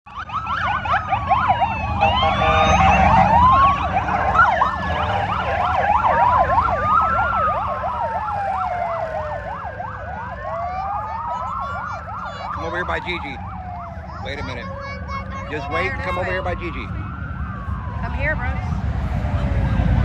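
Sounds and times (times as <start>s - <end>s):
emergency vehicle sirens wailing: 0.1s - 20.0s
low engine rumble: 0.2s - 20.0s.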